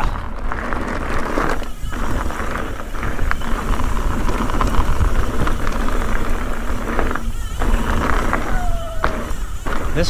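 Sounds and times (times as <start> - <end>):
bike tyres rolling over dirt: 0.0 - 10.0
gravel and bike rattles: 0.0 - 10.0
wind noise rumble: 0.0 - 10.0.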